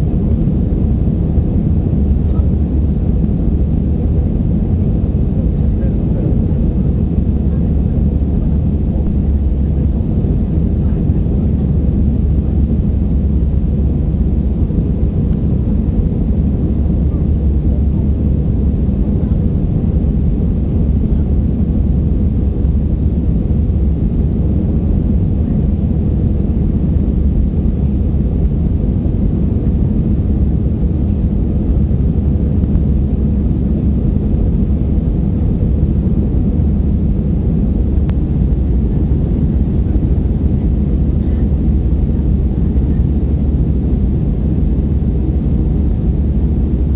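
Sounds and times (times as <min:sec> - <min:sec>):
jet engines at takeoff thrust: 0:00.0 - 0:46.9.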